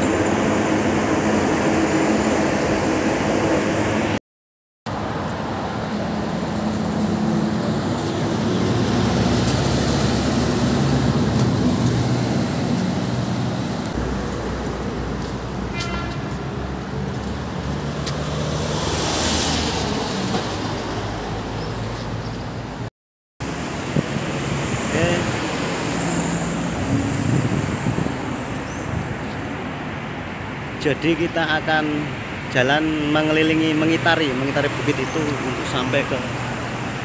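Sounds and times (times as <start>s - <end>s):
road traffic roar: 0.0s - 4.2s, 4.9s - 37.0s.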